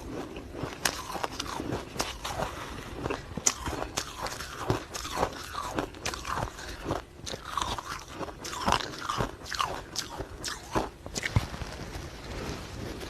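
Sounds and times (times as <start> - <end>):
ice crunching while chewed: 0.0 - 11.4.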